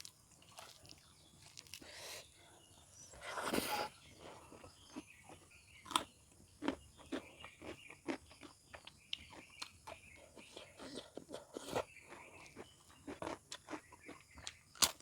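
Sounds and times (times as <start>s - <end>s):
person chewing crunchy food: 0.0s - 2.1s, 3.0s - 15.0s.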